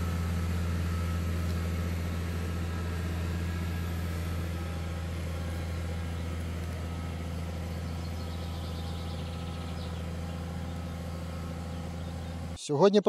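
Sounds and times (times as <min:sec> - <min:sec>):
tractor diesel engine droning: 0:00.0 - 0:12.6.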